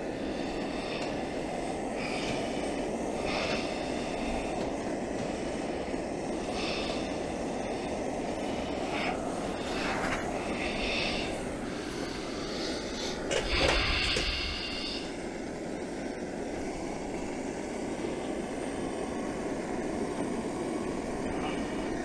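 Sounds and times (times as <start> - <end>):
gas torch flame rushing: 0.0 - 22.0
higher hisses: 0.0 - 22.0.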